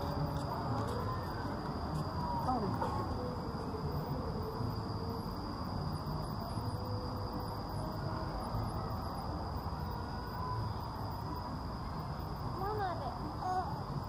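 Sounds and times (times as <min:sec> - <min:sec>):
faint wavering sounds: 0:00.0 - 0:14.0.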